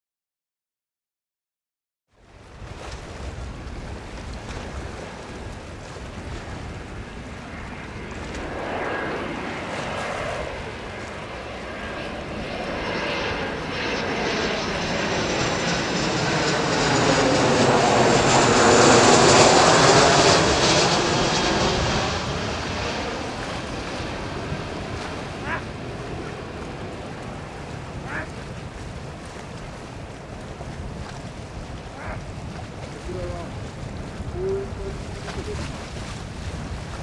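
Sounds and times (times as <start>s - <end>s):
jet engines passing overhead: 3.5s - 37.0s.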